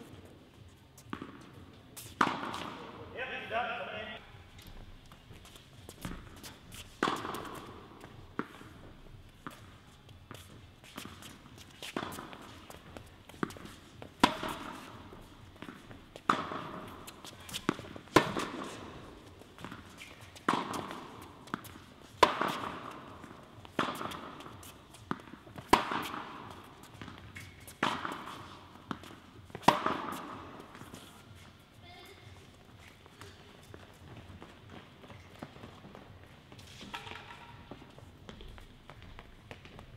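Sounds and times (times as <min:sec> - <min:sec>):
tennis ball bouncing: 0:00.0 - 0:39.9
racket striking tennis ball: 0:01.0 - 0:04.0, 0:05.9 - 0:31.6, 0:32.8 - 0:39.8.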